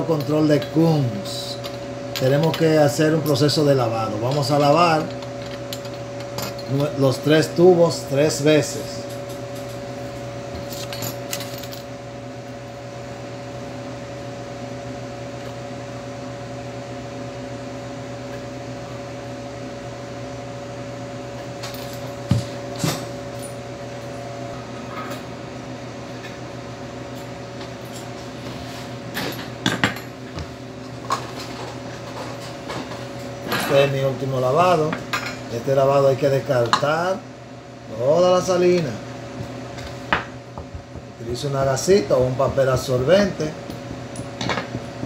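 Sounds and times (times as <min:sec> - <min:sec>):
laboratory equipment humming: 0:00.0 - 0:45.0.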